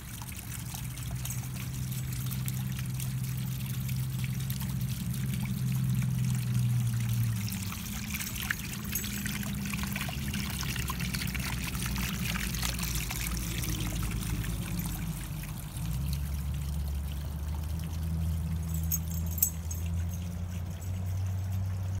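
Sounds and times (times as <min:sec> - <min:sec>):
water fountain trickling: 0:00.0 - 0:22.0.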